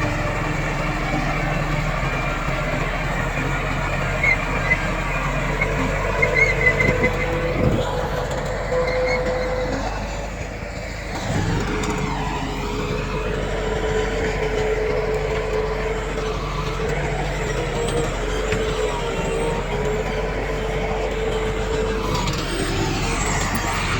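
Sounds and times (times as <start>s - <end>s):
heavy diesel machinery running: 0.0s - 23.9s.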